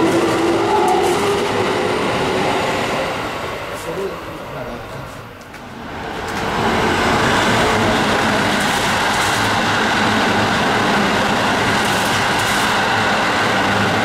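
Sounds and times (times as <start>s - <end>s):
electric train rushing past: 0.0s - 14.0s.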